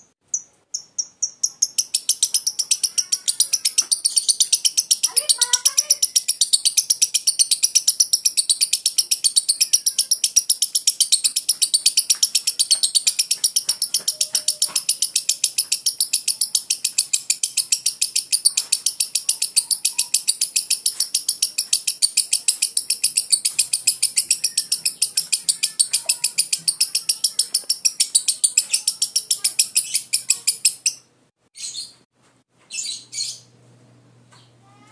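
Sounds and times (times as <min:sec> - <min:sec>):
lovebird chattering: 0:00.3 - 0:32.0.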